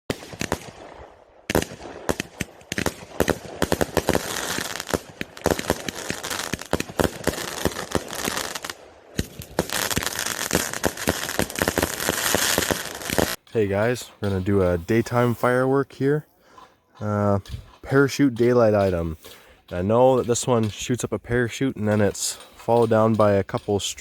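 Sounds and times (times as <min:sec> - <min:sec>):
fireworks crackling: 0:00.1 - 0:24.0.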